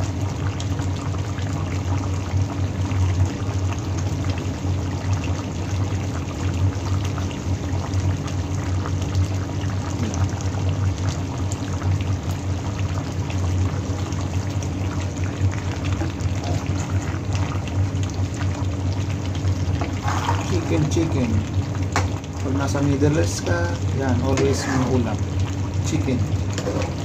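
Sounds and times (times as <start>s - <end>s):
stew bubbling and popping: 0.0s - 27.0s.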